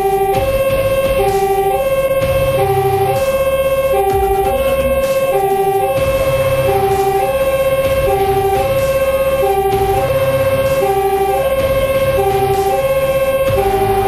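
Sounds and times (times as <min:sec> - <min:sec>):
fire engine two-tone siren: 0:00.0 - 0:14.0
truck engine and road noise: 0:00.0 - 0:14.0.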